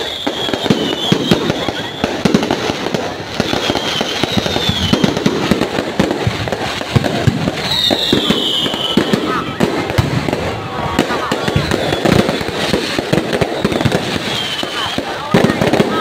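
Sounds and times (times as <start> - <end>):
firework whistle: 0.0 - 16.0
fireworks bangs and crackles: 0.0 - 16.0.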